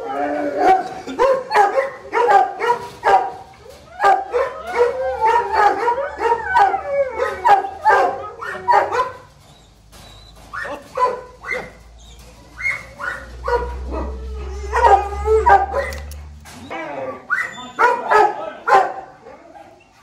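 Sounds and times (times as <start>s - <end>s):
dogs barking: 0.0s - 9.3s, 10.5s - 16.4s, 17.0s - 19.8s.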